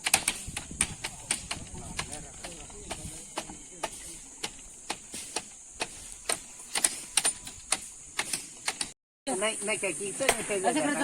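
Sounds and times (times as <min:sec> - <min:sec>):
hand tools striking gravel: 0:00.0 - 0:09.0
steady high hiss: 0:00.0 - 0:11.0.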